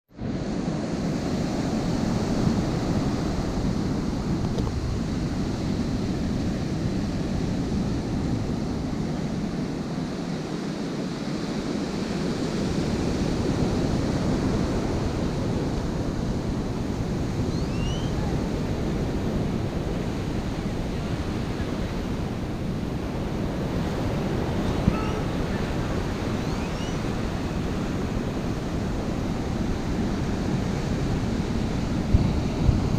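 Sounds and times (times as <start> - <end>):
ocean surf breaking: 0.2 - 32.9
wind buffeting microphone: 0.2 - 32.9.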